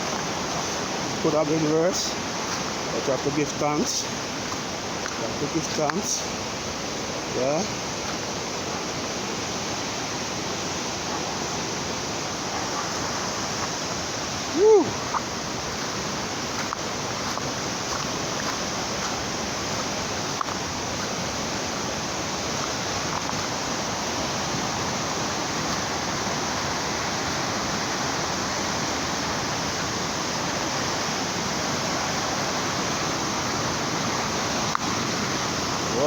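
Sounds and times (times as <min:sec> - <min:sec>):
fast-running water rushing: 0:00.0 - 0:36.0.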